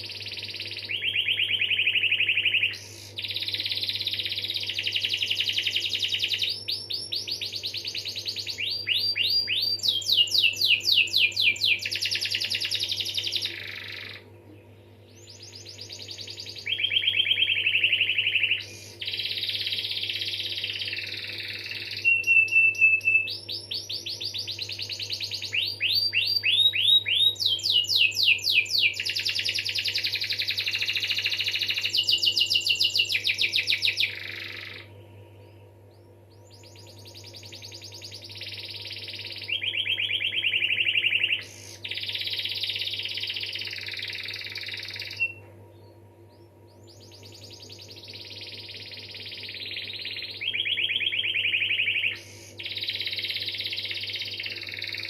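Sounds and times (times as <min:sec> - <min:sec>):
canary singing trills: 0:00.0 - 0:55.0
faint low hum: 0:00.0 - 0:55.0.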